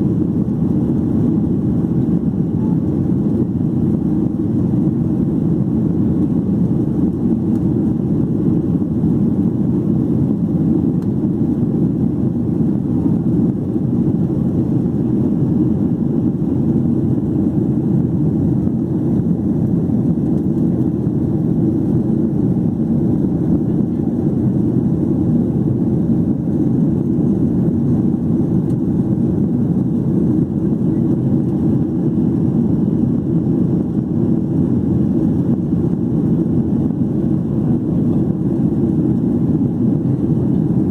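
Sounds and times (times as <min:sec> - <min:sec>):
jet engines droning: 0:00.0 - 0:40.9.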